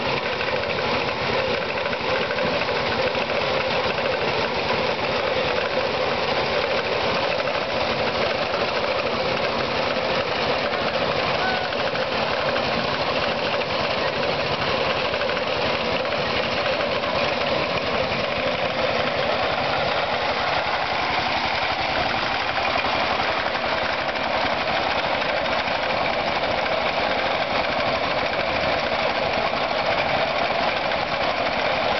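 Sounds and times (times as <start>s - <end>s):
tiller engine running: 0.0s - 31.9s.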